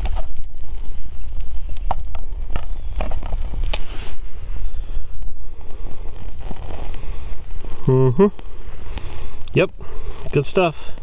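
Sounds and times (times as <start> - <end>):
wind rumble on microphone: 0.0 - 10.4
small flame crackling: 0.0 - 11.0.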